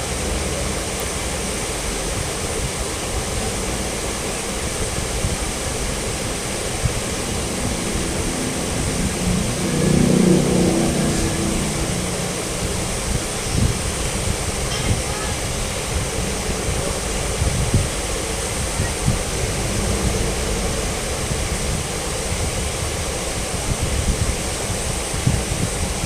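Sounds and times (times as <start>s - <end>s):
fountain water jets splashing: 0.0s - 26.0s
wind buffeting microphone: 0.0s - 26.0s.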